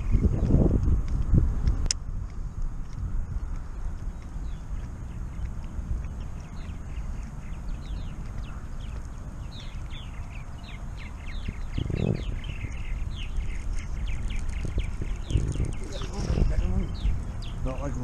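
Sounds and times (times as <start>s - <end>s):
small birds chirping: 0.0s - 18.0s
wind rumble on microphone: 0.0s - 18.0s.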